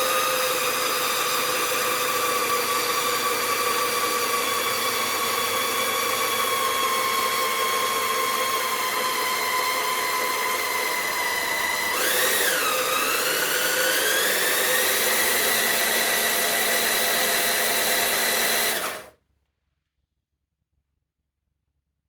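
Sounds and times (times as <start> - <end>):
electric motor whining: 0.0 - 19.1.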